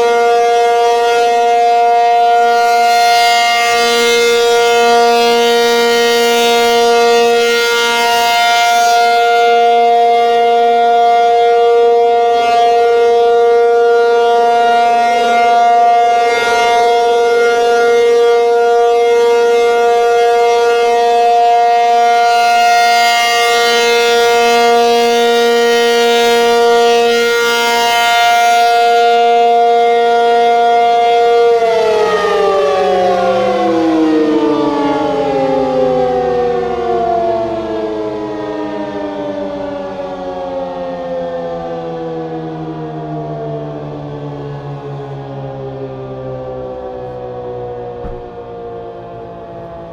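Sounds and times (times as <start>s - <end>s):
storm warning siren: 0.0s - 49.9s.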